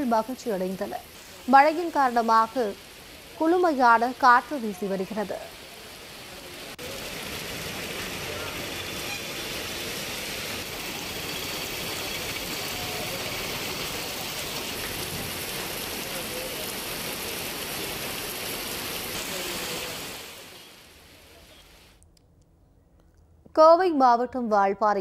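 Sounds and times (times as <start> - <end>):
heavy rain on road: 0.4 - 21.9.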